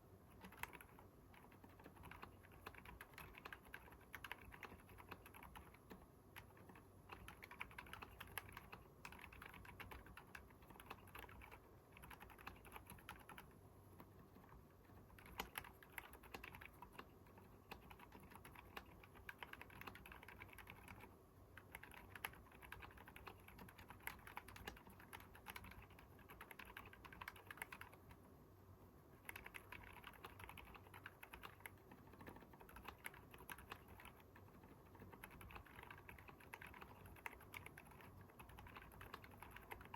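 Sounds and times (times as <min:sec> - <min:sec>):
soft keyboard typing: 0:00.0 - 0:39.9.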